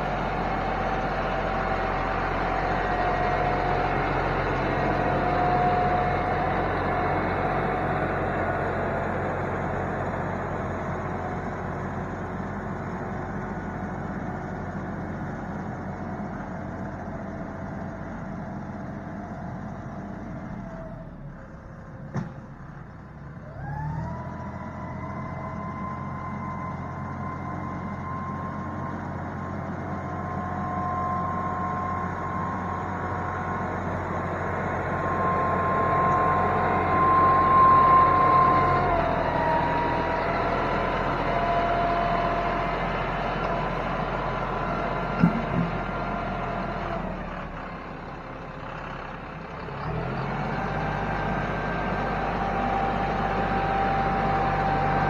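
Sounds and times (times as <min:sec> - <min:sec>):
reversing whine: 0:00.0 - 0:55.0
tractor diesel engine running: 0:00.0 - 0:55.0.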